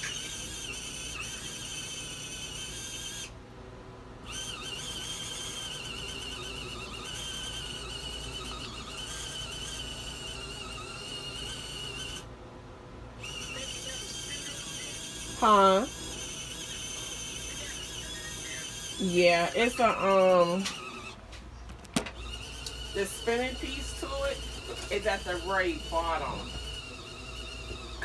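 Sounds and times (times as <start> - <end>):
washing machine motor whining: 0.0 - 3.4, 4.1 - 12.4, 13.1 - 28.0.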